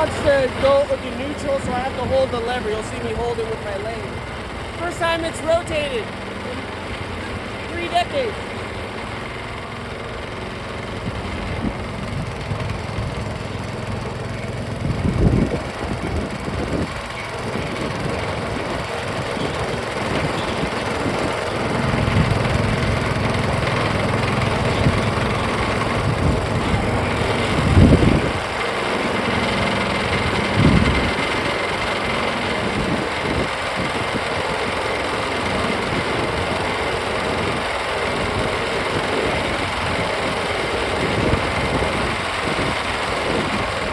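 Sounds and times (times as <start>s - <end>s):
gas engine running: 0.0s - 43.9s.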